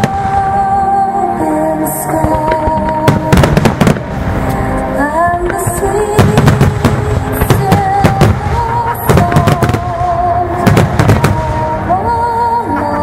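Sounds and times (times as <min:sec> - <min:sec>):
fireworks bangs and crackles: 0:00.0 - 0:01.0, 0:02.0 - 0:12.2
person singing long notes: 0:00.0 - 0:03.6, 0:04.5 - 0:13.0
music: 0:00.0 - 0:13.0.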